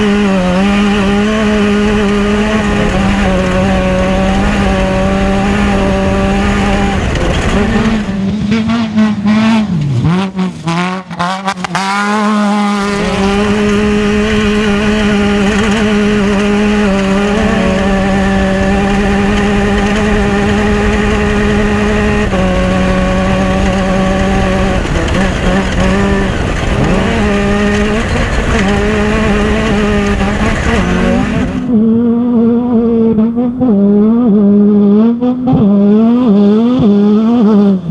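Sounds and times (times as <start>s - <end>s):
engine revving: 0.0s - 37.9s.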